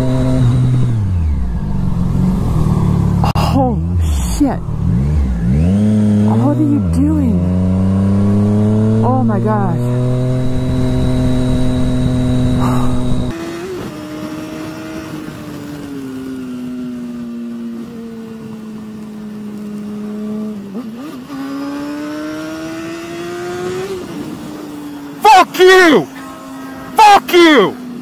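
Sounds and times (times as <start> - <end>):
sport bike engine revving: 0.0 - 15.8, 20.1 - 27.8
motorcycle engine drone: 0.0 - 28.0.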